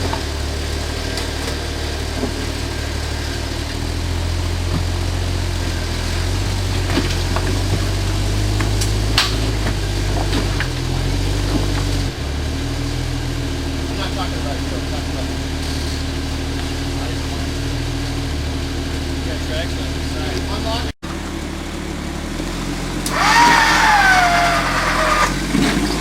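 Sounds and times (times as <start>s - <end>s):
vehicle engine running low: 0.0s - 26.0s.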